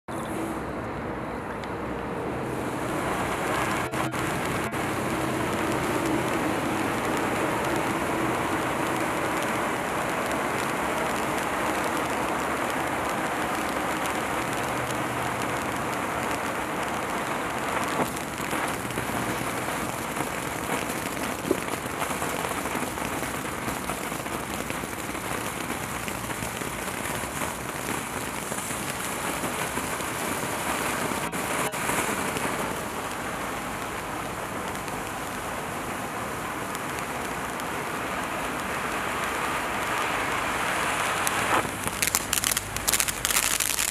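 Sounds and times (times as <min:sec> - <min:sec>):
firework fountain hissing: 0:00.1 - 0:01.1, 0:01.8 - 0:43.9
firework crackles and pops: 0:02.4 - 0:43.9.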